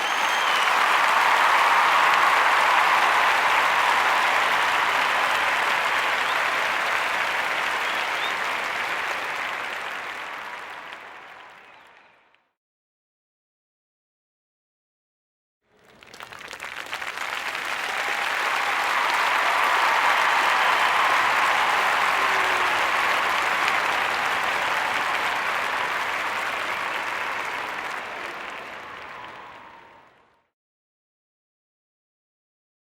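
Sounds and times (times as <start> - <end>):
crowd applauding: 0.0 - 12.4, 15.7 - 30.4.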